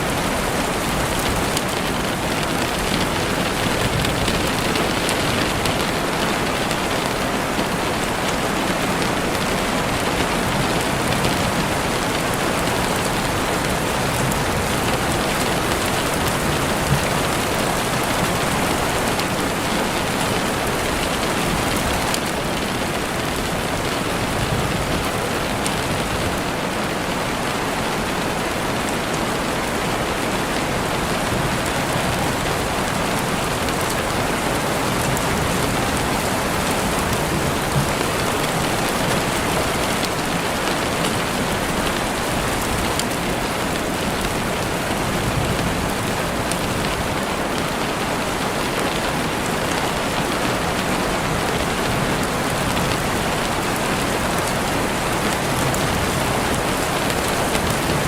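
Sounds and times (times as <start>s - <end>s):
rain on leaves: 0.0s - 58.0s.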